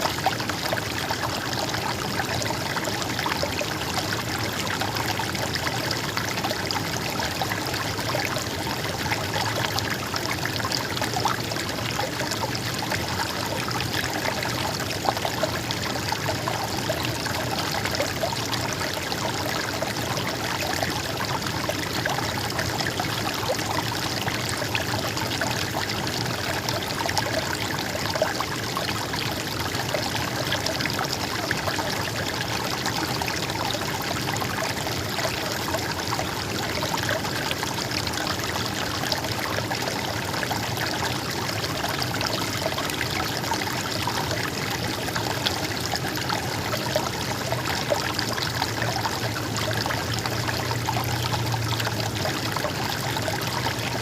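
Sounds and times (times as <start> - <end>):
water flowing over rocks: 0.0 - 54.0.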